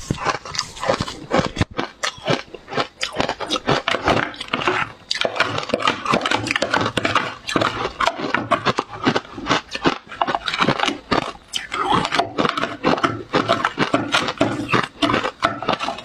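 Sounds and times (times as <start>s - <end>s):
chewing and crunching ice: 0.0s - 16.0s.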